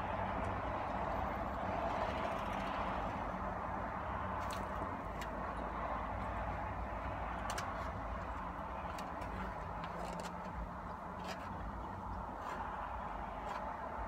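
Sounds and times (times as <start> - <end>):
vehicle hiss and hum: 0.0 - 14.0.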